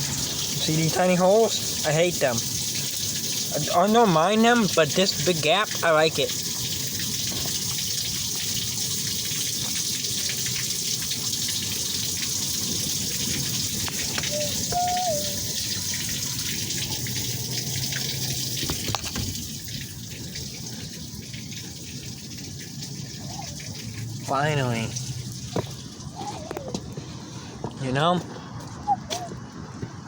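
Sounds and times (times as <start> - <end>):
water running into drain: 0.0 - 27.2.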